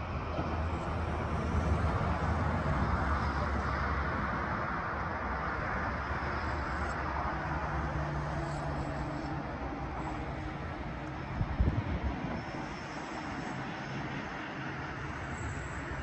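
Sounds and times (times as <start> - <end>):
vehicle rumble with low hum: 0.0 - 16.0.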